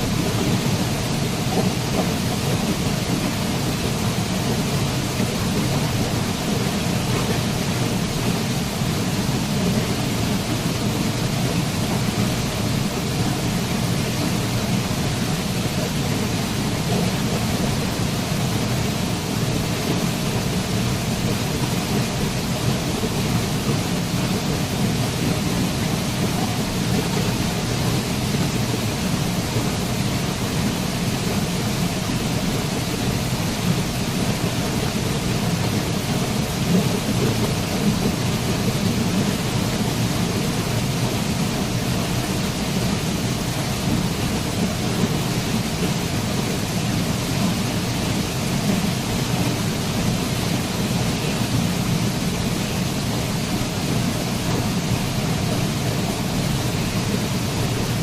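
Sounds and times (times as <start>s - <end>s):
waterfall roaring: 0.0s - 58.0s.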